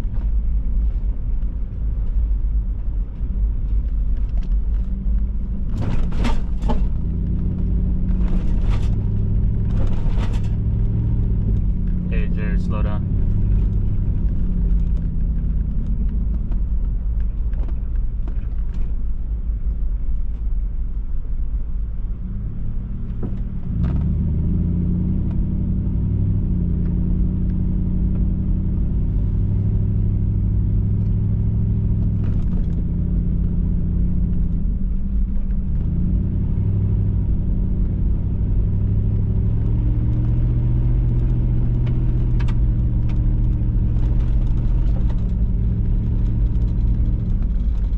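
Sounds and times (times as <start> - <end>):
low road rumble: 0.0 - 47.9
vehicle engine running: 0.0 - 47.9.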